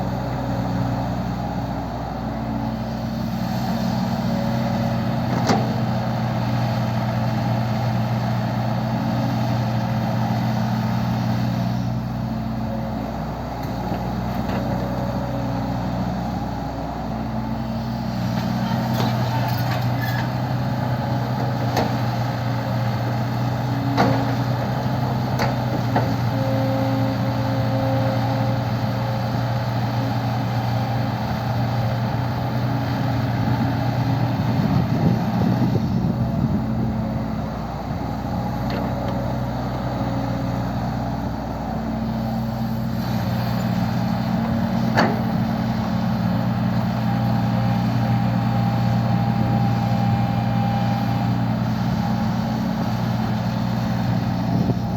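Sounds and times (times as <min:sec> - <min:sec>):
heavy diesel engines running: 0:00.0 - 0:54.9.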